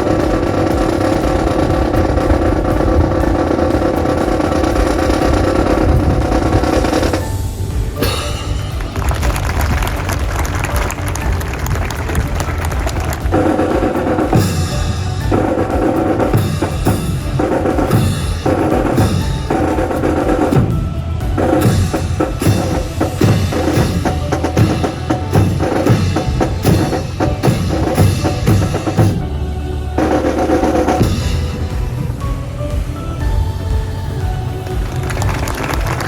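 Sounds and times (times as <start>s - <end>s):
snare and bass drums beating: 0.0s - 36.0s.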